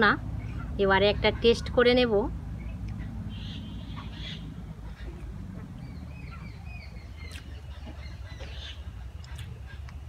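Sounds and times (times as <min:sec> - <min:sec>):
birds chirping: 0:00.0 - 0:10.0
low background rumble: 0:00.0 - 0:10.0.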